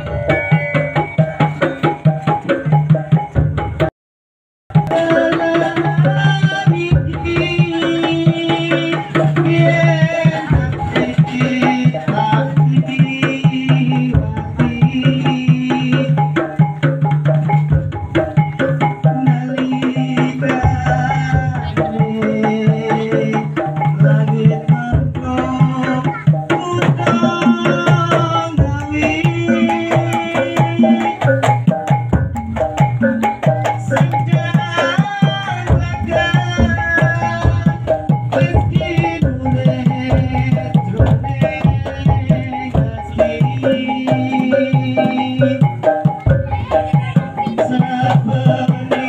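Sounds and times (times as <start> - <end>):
hand drums beating: 0.0 - 3.9, 4.7 - 49.0
pitched melody: 0.0 - 3.9, 4.7 - 49.0.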